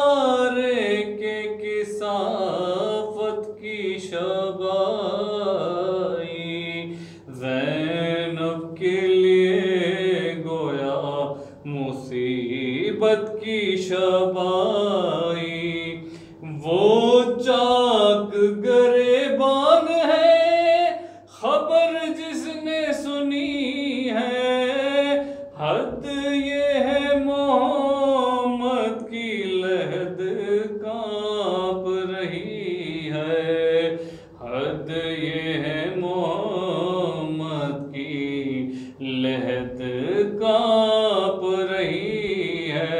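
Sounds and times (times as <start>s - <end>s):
man chanting: 0.0s - 42.9s.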